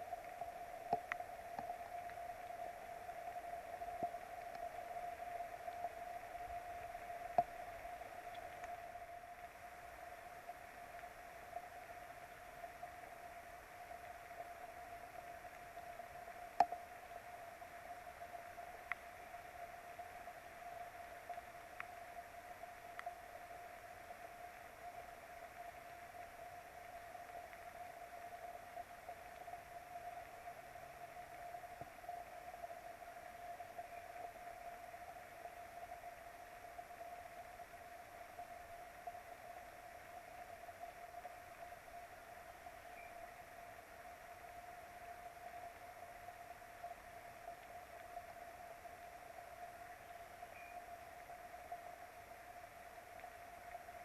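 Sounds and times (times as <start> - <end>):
rain hissing on microphone: 0.0 - 54.0.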